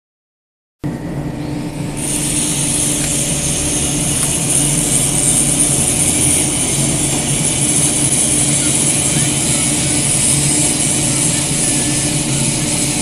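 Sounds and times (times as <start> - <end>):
high-pitched whine: 0.8 - 13.0
electric saw motors humming: 0.9 - 13.0.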